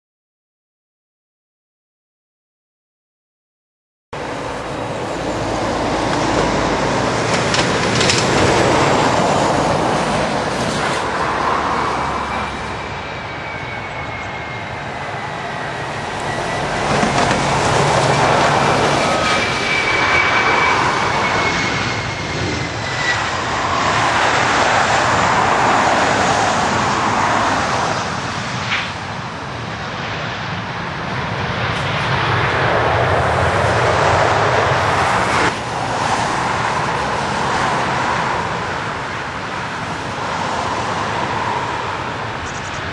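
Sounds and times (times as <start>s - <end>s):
airliner engines roaring: 4.2s - 42.9s
high engine whine: 4.2s - 42.9s.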